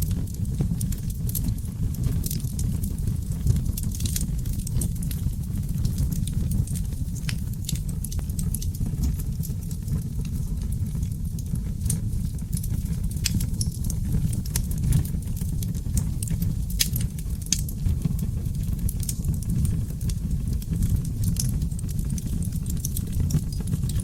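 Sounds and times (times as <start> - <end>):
fire burning in a fireplace: 0.0 - 24.0
fire crackling and popping: 0.0 - 24.0.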